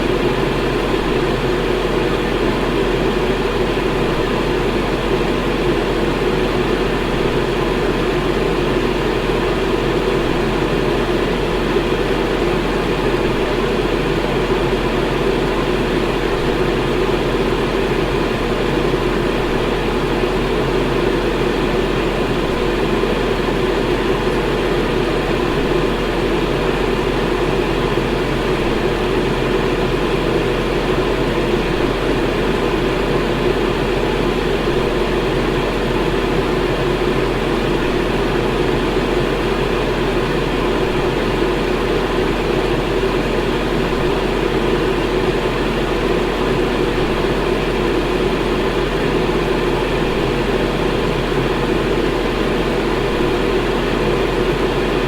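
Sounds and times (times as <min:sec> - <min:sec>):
electric fan running: 0:00.0 - 0:55.0.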